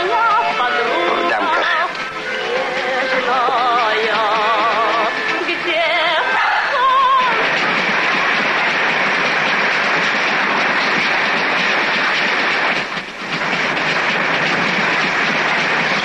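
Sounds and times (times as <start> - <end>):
passenger train running at speed: 0.0 - 16.0.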